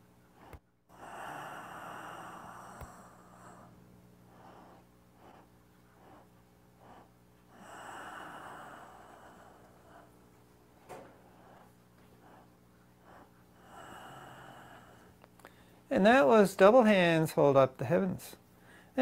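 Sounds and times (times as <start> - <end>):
man breathing slowly: 0.0 - 15.9, 18.5 - 19.0.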